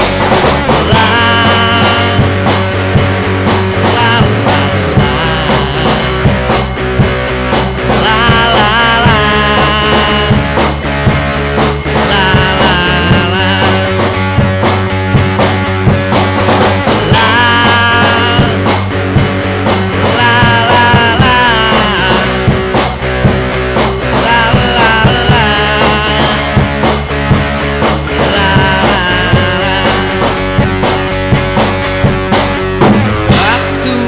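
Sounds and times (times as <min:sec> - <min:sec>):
bass: 0:00.0 - 0:34.0
drum beat: 0:00.0 - 0:34.0.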